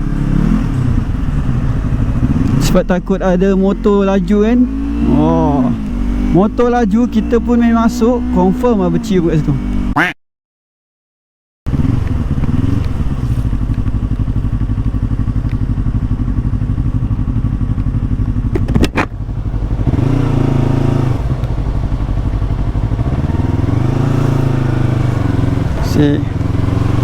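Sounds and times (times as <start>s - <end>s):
motorcycle engine revving: 0.0s - 10.0s, 11.7s - 27.0s.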